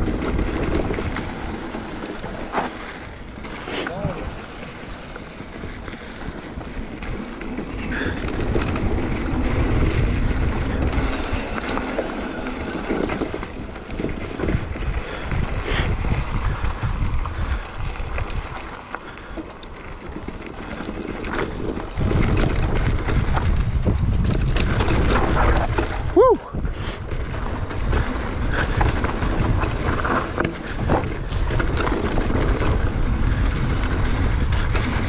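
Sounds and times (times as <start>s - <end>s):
wind on microphone: 0.0s - 19.4s, 20.7s - 35.0s
bike knocks and rattles: 0.0s - 26.3s, 27.0s - 35.0s
tyres rolling on dirt trail: 0.0s - 35.0s.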